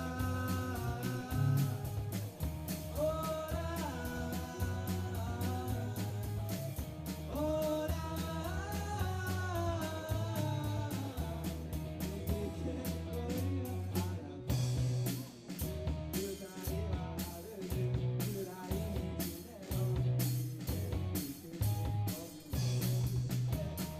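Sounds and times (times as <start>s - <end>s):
live band music: 0.0s - 23.9s.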